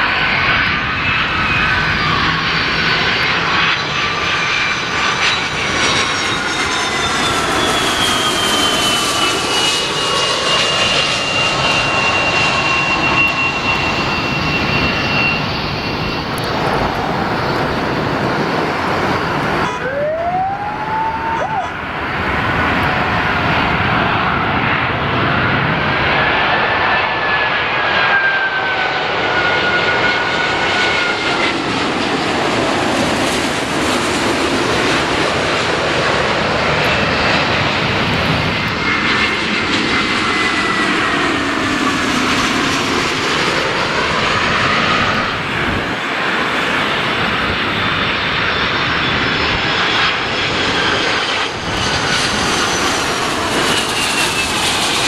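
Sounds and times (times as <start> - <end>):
jet airliner engines passing: 0.0 - 55.0.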